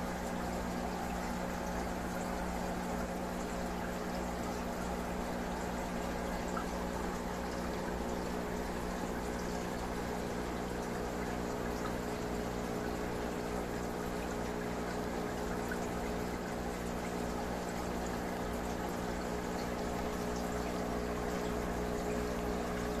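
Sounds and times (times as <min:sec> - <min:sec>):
pump humming: 0:00.0 - 0:23.0
water bubbling and trickling: 0:00.0 - 0:23.0.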